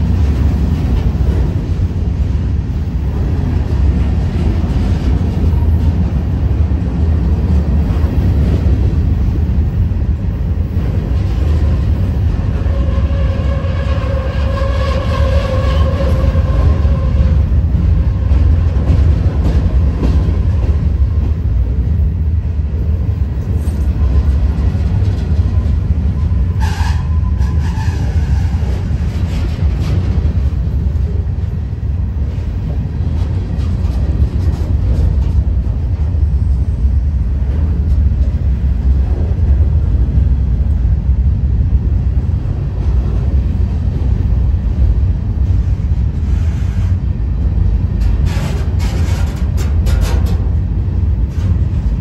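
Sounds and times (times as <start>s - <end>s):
train wheels rumbling on track: 0.0s - 52.0s.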